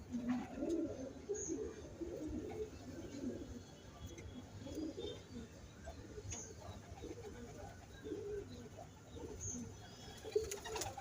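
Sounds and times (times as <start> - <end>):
pigeons cooing: 0.0 - 3.7, 4.4 - 11.0.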